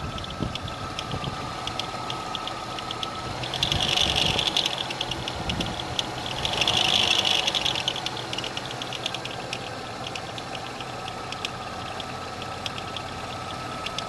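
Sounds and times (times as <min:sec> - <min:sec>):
belt drive ticking rattle: 0:00.0 - 0:14.0
car engine running: 0:00.0 - 0:14.0.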